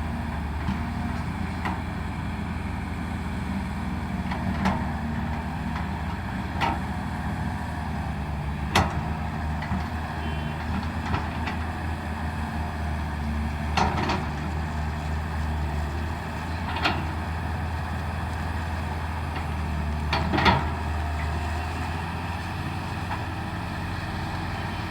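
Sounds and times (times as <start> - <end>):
heavy diesel machinery running: 0.0 - 24.9.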